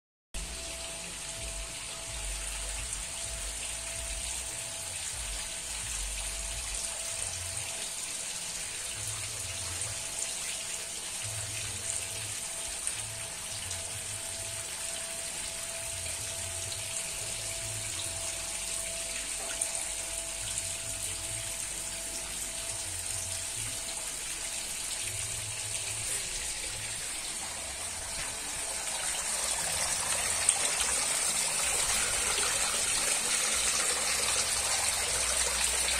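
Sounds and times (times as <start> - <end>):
faint steady tone: 0.4 - 35.9
water falling into pond: 0.4 - 35.9.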